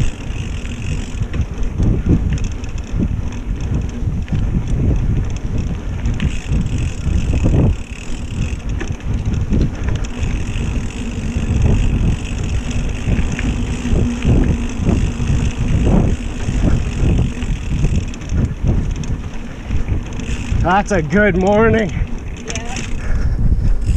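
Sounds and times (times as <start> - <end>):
bike frame knocking and rattling: 0.0 - 23.9
mountain bike rolling on dirt: 0.0 - 23.9
wind rumbling on microphone: 0.0 - 23.9.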